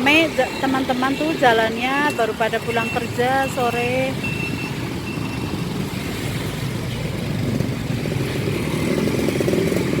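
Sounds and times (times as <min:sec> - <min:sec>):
motorcycles and cars passing: 0:00.0 - 0:10.0.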